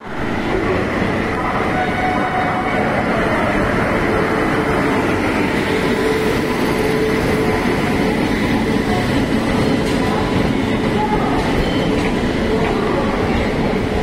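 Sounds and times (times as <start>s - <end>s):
train wheels rumbling on rails: 0.1s - 14.0s.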